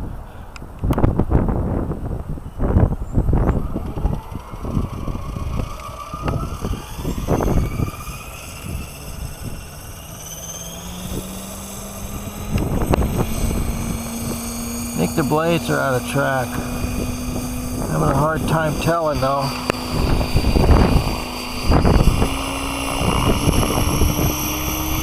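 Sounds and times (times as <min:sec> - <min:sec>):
wind buffeting on microphone: 0:00.0 - 0:25.0
rc helicopter motor whine: 0:00.5 - 0:25.0.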